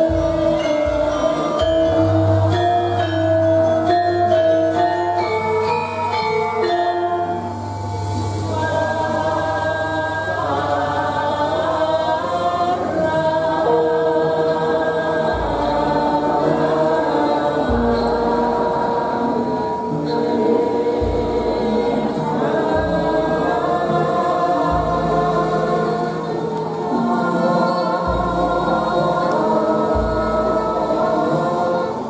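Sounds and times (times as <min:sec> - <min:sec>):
chorus singing: 0:00.0 - 0:32.0
metallophones playing: 0:00.0 - 0:32.0.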